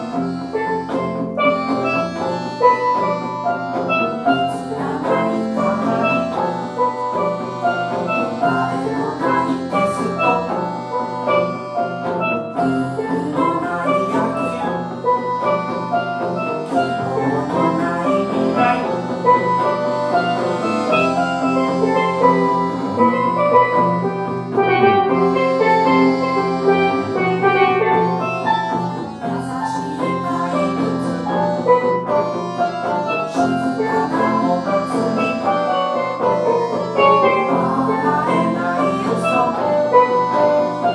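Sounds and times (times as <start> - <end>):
live band playing instrumental: 0.0 - 40.9.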